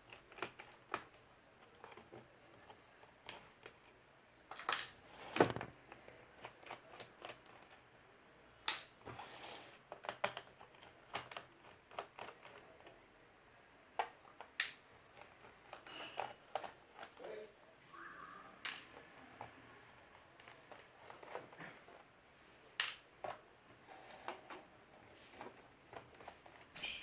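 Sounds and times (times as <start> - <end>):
hands handling computer hardware: 0.0 - 8.0, 8.6 - 13.1, 13.8 - 17.4, 18.0 - 27.0.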